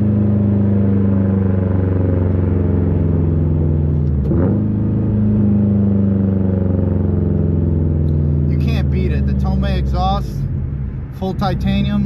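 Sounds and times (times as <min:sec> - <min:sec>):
loud car exhaust drone: 0:00.0 - 0:12.0.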